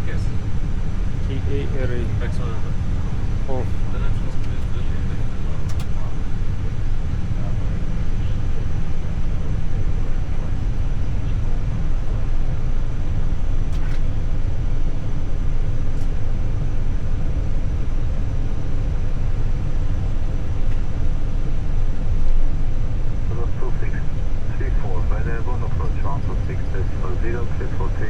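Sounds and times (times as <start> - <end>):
cockpit engine rumble and hiss: 0.0 - 28.0.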